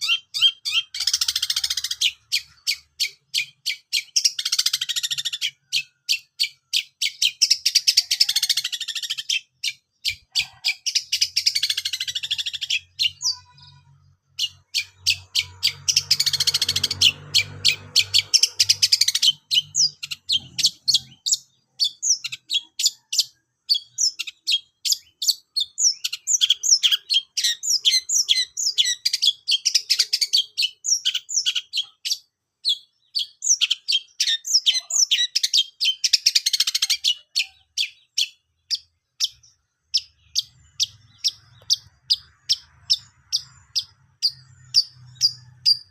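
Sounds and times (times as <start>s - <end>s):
bird chirps and trills: 0.0s - 45.9s.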